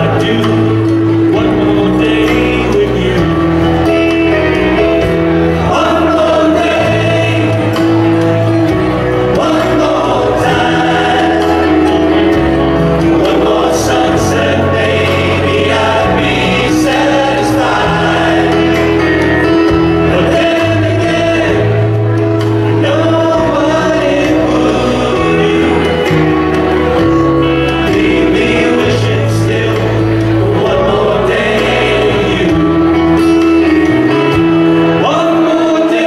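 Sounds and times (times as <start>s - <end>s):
male vocal quartet singing: 0.0s - 36.0s
musical accompaniment with bass: 0.0s - 36.0s.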